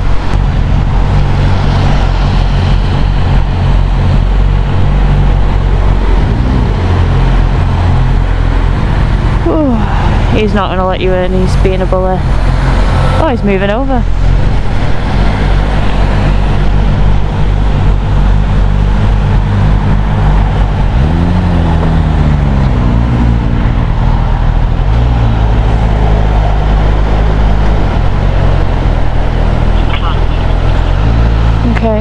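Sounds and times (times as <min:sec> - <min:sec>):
wind and road noise: 0:00.0 - 0:32.0.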